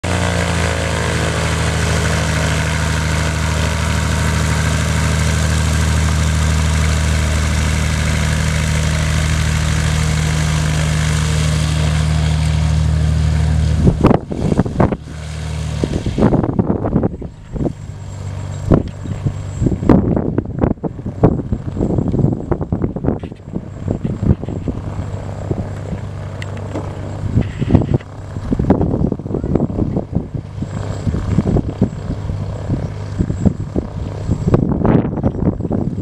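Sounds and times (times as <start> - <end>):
propeller plane engine running: 0.0 - 36.0.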